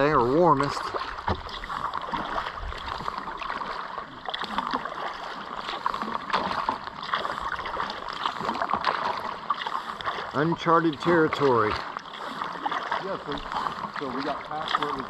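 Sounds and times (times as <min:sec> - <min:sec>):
paddle splashes: 0:00.0 - 0:15.0
water splashing around kayak: 0:00.0 - 0:15.0.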